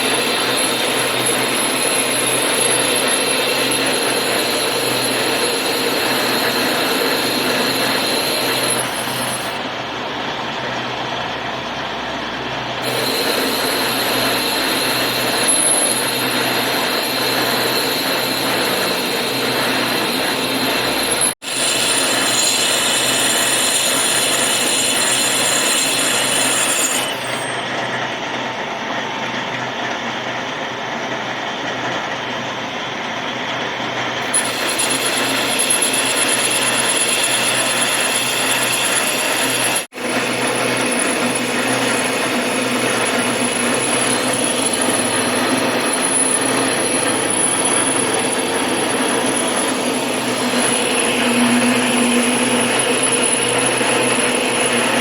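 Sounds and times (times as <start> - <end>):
power tool machining metal: 0.0 - 9.8, 12.8 - 28.0, 34.2 - 55.0.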